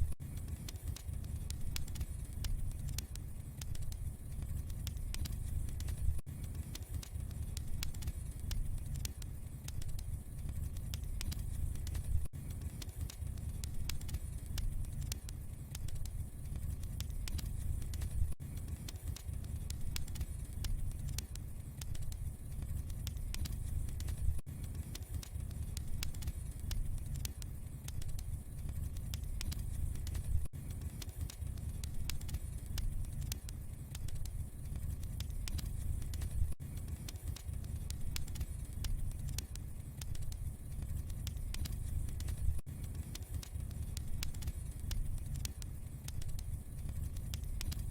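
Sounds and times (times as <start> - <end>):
low fire rumble: 0.0 - 47.9
wood fire crackling: 0.0 - 47.9.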